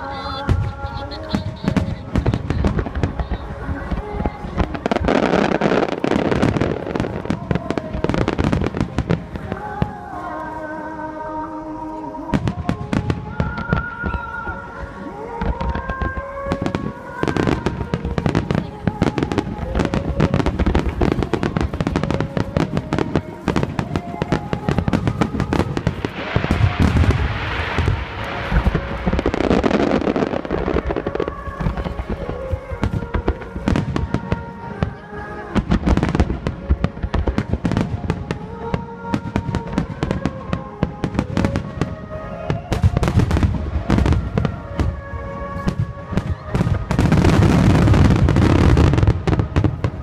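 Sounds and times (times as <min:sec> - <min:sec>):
fireworks bursting: 0:00.0 - 0:50.0
fireworks crackling: 0:00.0 - 0:50.0
song over loudspeakers: 0:00.0 - 0:50.0.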